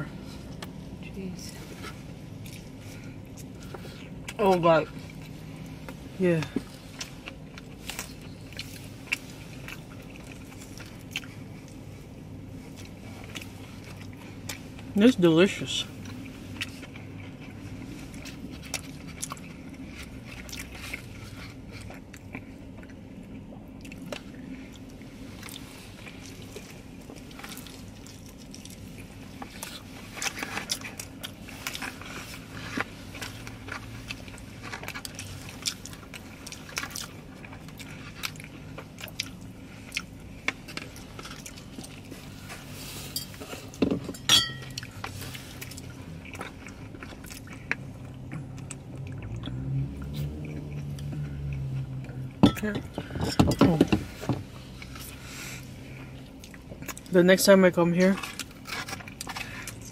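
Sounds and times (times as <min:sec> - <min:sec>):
people chewing food: 0:00.0 - 0:01.0, 0:01.6 - 0:59.9.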